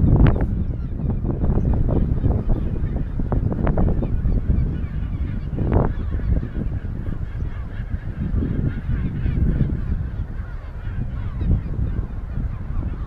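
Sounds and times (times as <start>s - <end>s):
chorus of birds calling: 0.0s - 13.0s.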